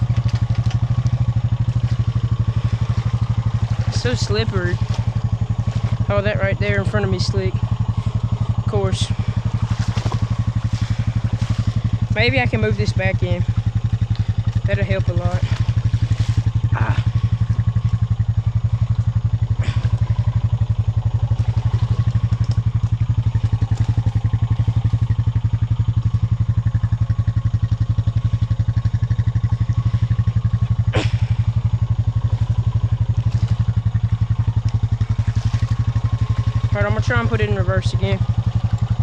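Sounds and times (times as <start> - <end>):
atv engine idling: 0.0 - 39.0.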